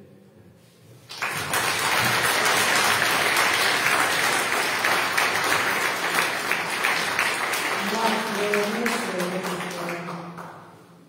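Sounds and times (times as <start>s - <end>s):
people applauding: 1.0s - 10.7s.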